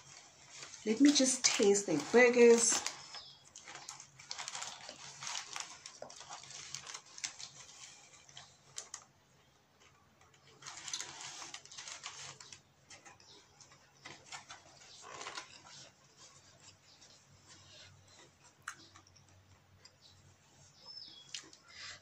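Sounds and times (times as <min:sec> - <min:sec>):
paper wrapper crinkling: 0:00.0 - 0:09.1, 0:09.8 - 0:18.6.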